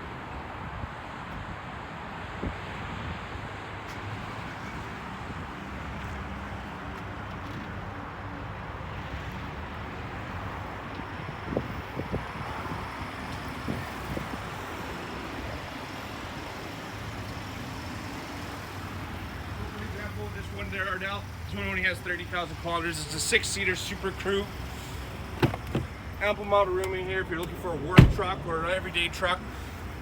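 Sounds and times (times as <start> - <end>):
pickup truck engine running: 4.3 - 30.0.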